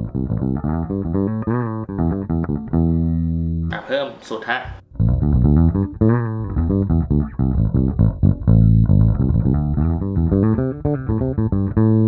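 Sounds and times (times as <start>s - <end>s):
electric bass plucked notes: 0.0s - 3.8s, 4.7s - 12.0s.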